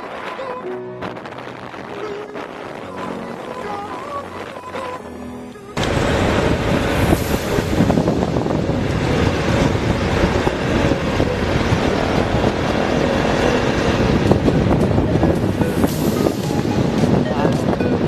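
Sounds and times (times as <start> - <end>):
wind buffeting on microphone: 0.0 - 18.0.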